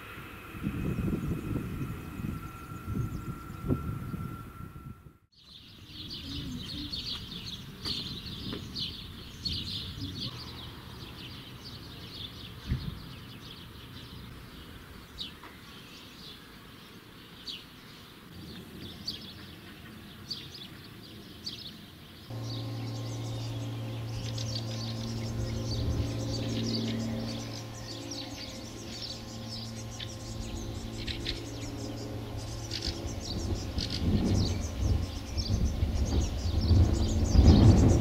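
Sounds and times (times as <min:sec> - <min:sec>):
distant train rumble: 0:00.0 - 0:15.6, 0:22.3 - 0:38.0
songbirds chirping: 0:05.4 - 0:38.0.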